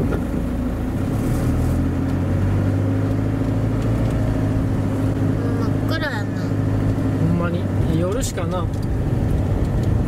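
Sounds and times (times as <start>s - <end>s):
van engine and road noise: 0.0s - 10.0s.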